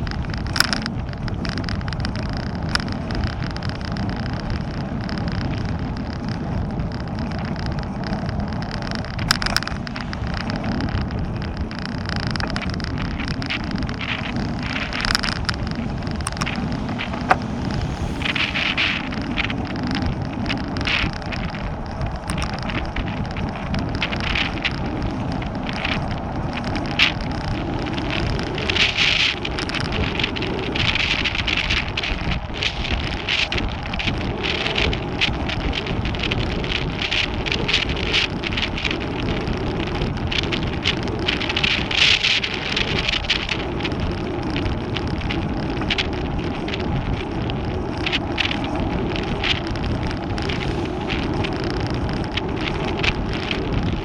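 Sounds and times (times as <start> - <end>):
crackles and clicks: 0.0 - 54.0
tyres rumbling on asphalt: 0.0 - 54.0
wind buffeting microphone: 0.0 - 54.0.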